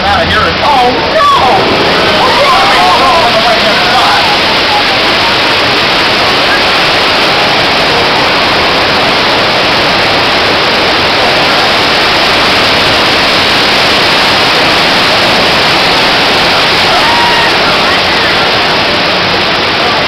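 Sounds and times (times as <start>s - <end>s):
torrent of water rushing: 0.0s - 20.0s.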